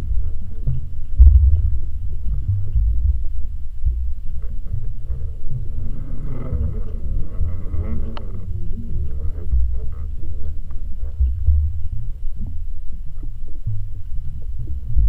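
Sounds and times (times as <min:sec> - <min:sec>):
faint wavering whine: 0:00.0 - 0:15.0
underwater rumble of moving water: 0:00.0 - 0:15.0.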